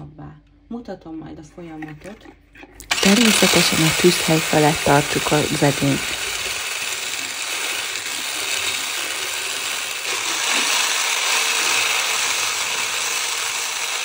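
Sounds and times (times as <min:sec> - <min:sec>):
electric whisk whirring: 0:02.8 - 0:14.0.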